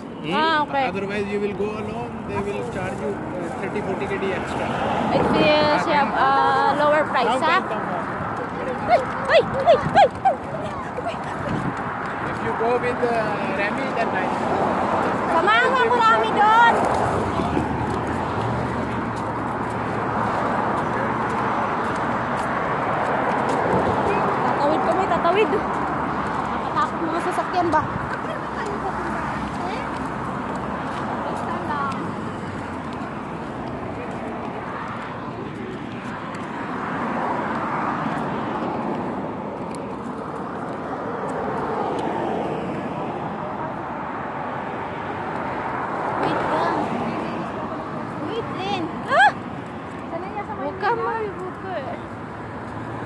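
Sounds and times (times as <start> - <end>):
city street traffic: 0.0 - 53.0.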